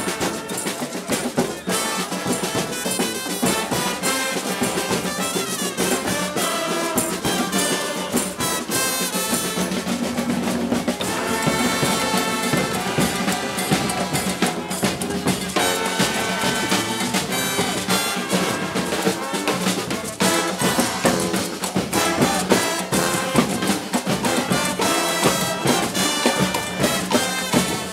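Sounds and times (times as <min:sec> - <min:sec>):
brass horns playing tune: 0:00.0 - 0:10.3, 0:10.9 - 0:27.9
drum beat: 0:00.0 - 0:27.9.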